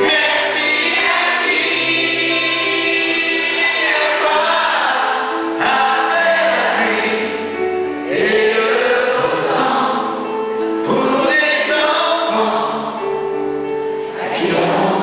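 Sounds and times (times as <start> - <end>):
man singing: 0.0 - 13.3
crowd singing along: 0.0 - 15.0
grand piano: 0.0 - 15.0.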